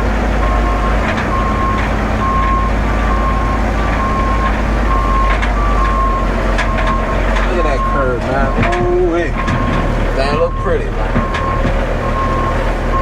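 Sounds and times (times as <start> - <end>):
backup alarm beeping: 0.0 - 13.0
diesel engine running: 0.0 - 13.0.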